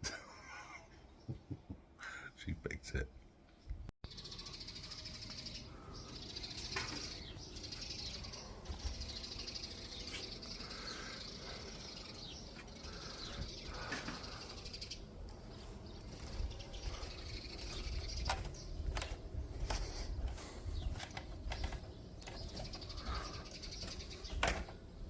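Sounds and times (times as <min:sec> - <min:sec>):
birds chirping: 0:00.1 - 0:25.0.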